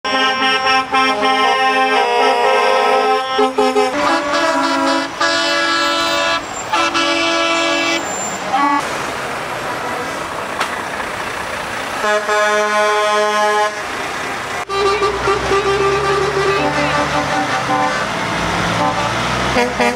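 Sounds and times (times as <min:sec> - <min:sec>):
truck air horns blasting: 0:00.0 - 0:08.8, 0:12.0 - 0:14.0, 0:14.6 - 0:19.9
heavy truck driving by: 0:00.1 - 0:19.9.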